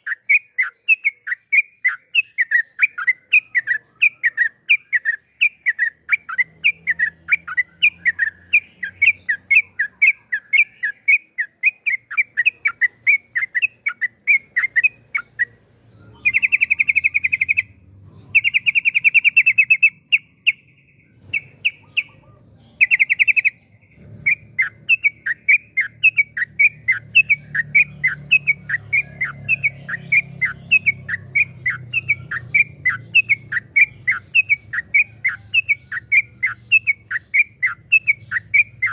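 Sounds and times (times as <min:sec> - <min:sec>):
bulbul singing chirps and trills: 0:00.0 - 0:38.9.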